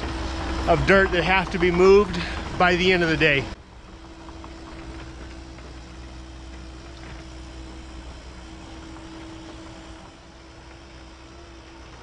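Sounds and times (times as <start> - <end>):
low engine rumble: 0.0 - 12.0
steady machine whine: 0.0 - 12.0.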